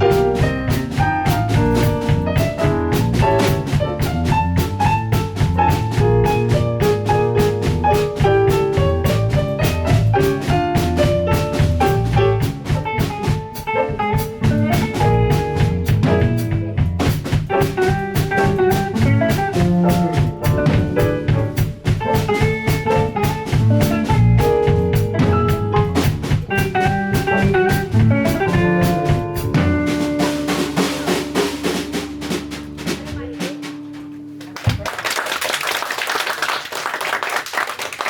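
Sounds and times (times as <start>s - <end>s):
instrumental jazz music: 0.0s - 34.8s
drum kit beat: 0.0s - 35.2s.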